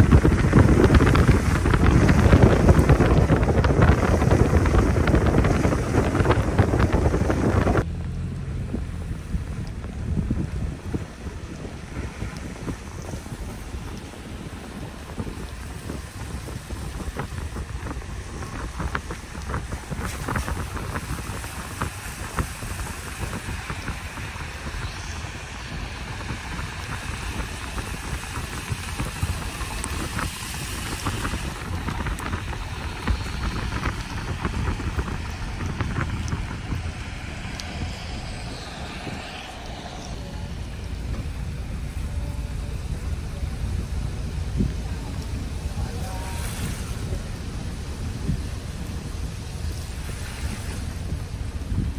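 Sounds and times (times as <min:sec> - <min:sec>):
steady rain: 0:00.0 - 0:51.9
wind buffeting microphone: 0:00.0 - 0:51.9.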